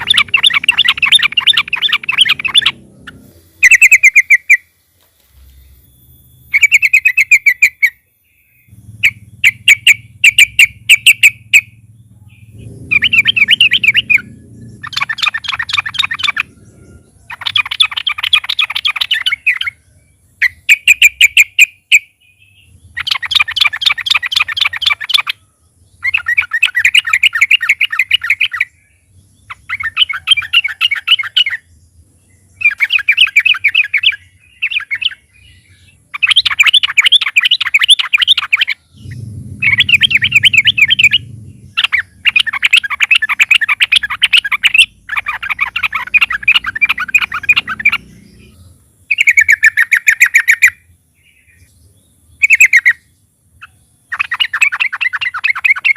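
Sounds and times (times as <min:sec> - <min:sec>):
bird chattering trills: 0:00.0 - 0:31.7, 0:32.4 - 0:55.9.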